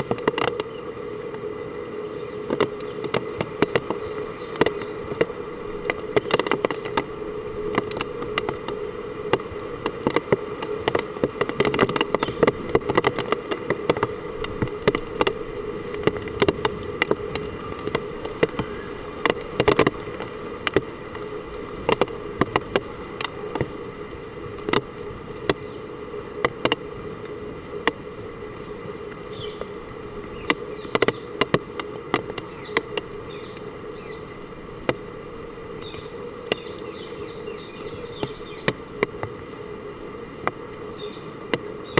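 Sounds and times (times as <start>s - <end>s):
steady hum: 0.0s - 41.9s.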